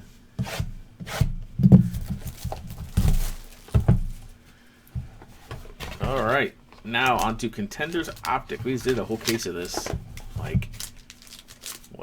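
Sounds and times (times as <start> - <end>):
dull thumps and knocks: 0.0 - 12.0
packaging rustling: 1.7 - 12.0.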